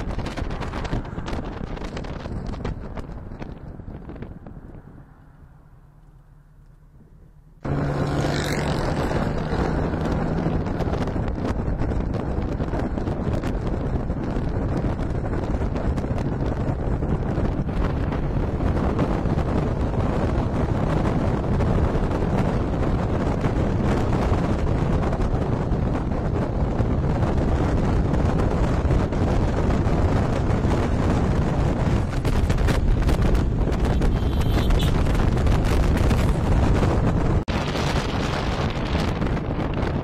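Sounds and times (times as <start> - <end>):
vehicle rumble: 0.0 - 40.0
wind buffeting microphone: 0.0 - 40.0.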